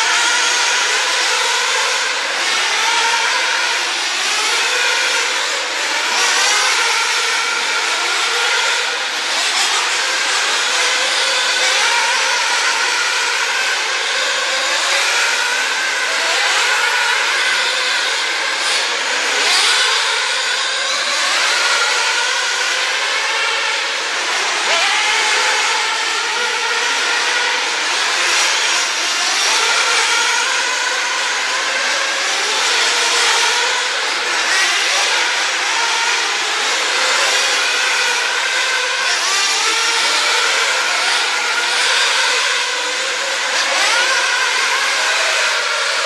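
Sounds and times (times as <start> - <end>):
rc car motors whining: 0.0 - 46.0.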